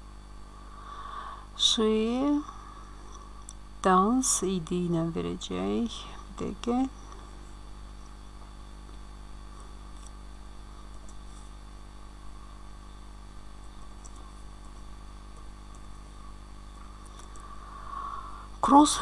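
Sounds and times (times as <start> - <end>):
electrical hum: 0.0 - 19.0
microphone hiss: 0.0 - 19.0.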